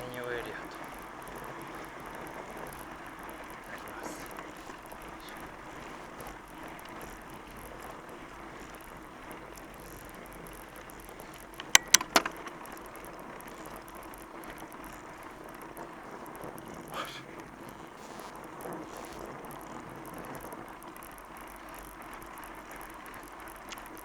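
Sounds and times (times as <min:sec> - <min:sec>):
bike tyres rolling: 0:00.0 - 0:24.0
sharp clacks: 0:00.0 - 0:24.0.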